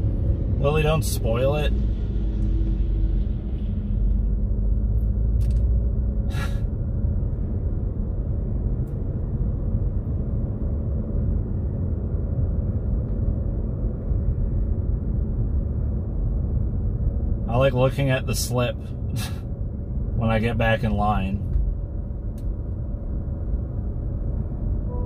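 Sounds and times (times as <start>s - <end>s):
car engine rumble and road noise: 0.0s - 25.0s.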